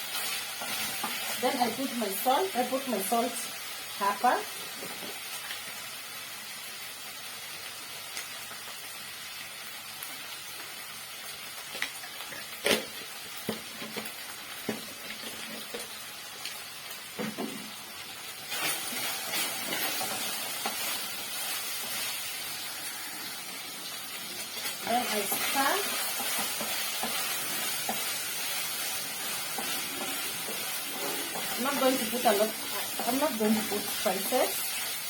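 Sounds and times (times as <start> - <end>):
meat sizzling in oil: 0.0 - 35.0.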